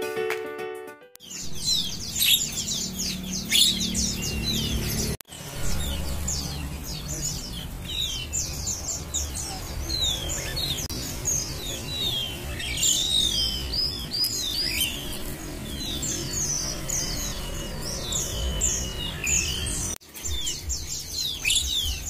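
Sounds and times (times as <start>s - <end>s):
birds whistling: 1.2s - 22.0s.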